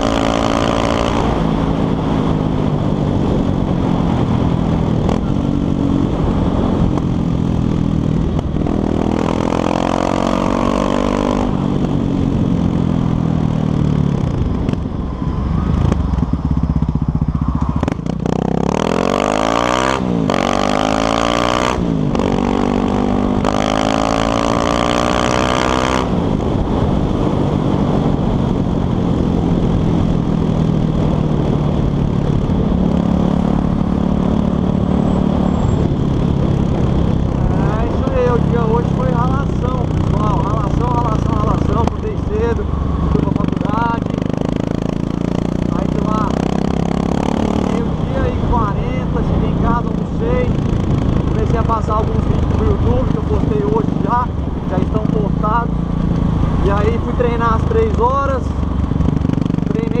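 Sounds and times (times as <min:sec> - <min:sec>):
motorcycle engine shifting gears: 0:00.0 - 1:00.0.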